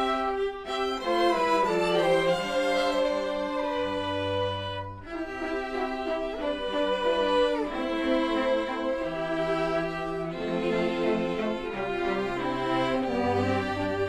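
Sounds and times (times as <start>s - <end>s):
string ensemble playing chords: 0.0s - 14.0s.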